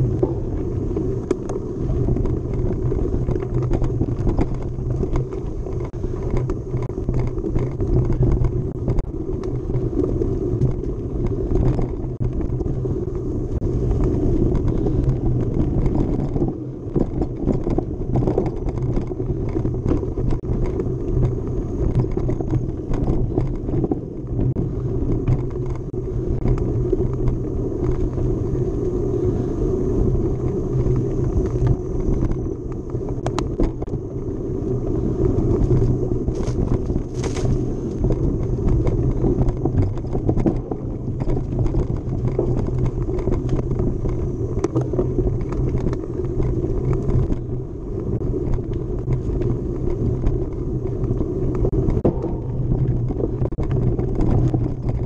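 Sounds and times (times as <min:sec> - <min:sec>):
bike rattling over rough ground: 0:00.0 - 0:55.0
bike tyres rumbling on dirt: 0:00.0 - 0:55.0.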